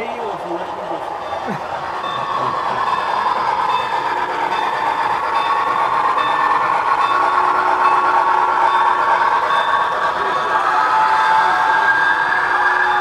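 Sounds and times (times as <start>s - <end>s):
model trains rolling rumble: 0.0s - 13.0s.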